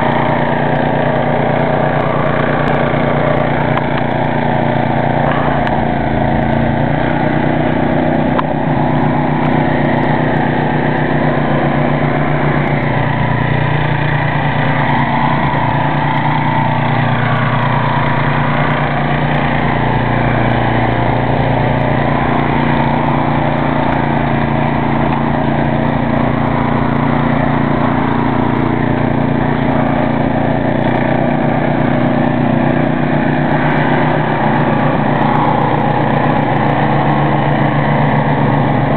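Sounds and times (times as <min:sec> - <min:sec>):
snow thrower engine running: 0:00.0 - 0:38.9.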